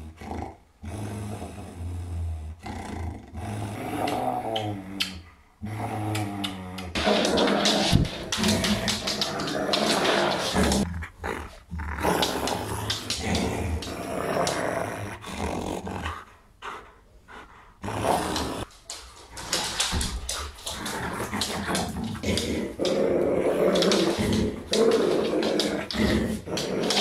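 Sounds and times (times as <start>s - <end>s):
dog growling in play: 0.0s - 27.0s.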